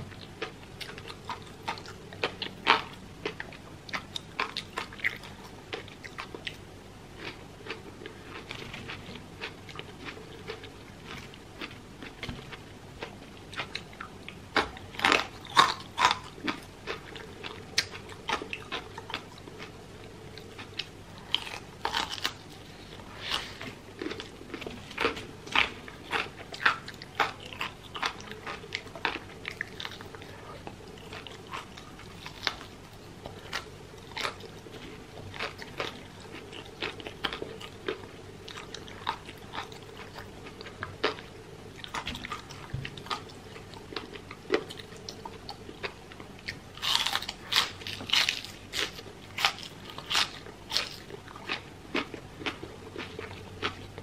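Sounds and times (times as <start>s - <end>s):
crunchy chewing: 0.1s - 54.0s.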